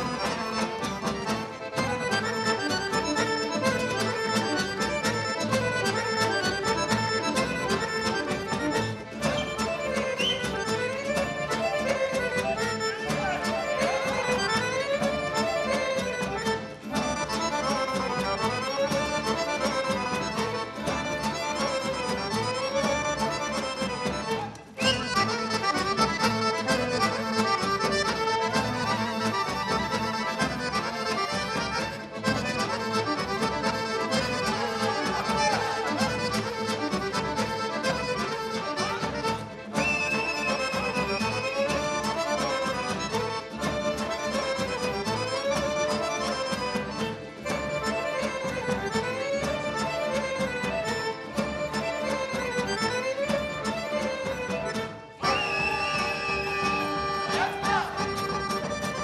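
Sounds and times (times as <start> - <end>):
accordion: 0.0 - 59.0
violin: 0.0 - 59.0.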